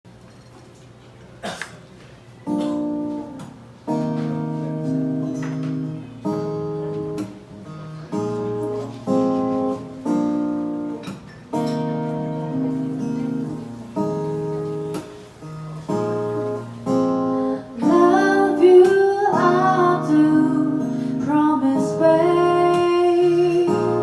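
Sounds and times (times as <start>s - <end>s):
acoustic guitar chords: 2.4s - 24.0s.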